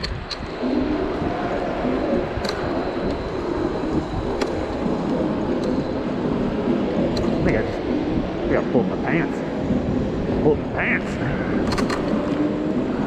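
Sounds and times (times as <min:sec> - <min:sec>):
sharp clicks and rattles: 0:00.0 - 0:09.8, 0:11.6 - 0:13.0
wind and tyre rumble: 0:00.0 - 0:13.0.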